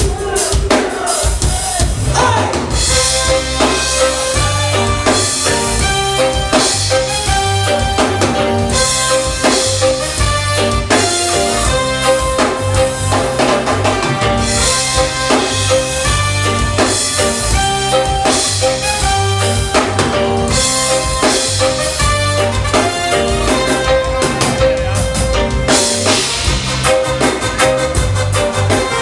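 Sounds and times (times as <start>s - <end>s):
drum kit beat: 0.0s - 29.0s
reggae band playing: 0.0s - 29.0s
bass line: 1.9s - 29.0s.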